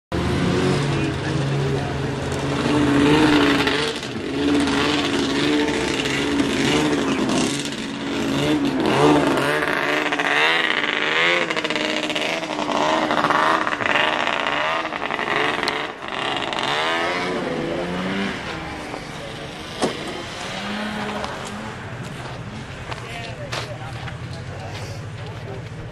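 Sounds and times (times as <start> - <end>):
snowmobile engine revving: 0.1 - 23.2
snowmobile engines running: 0.1 - 25.9.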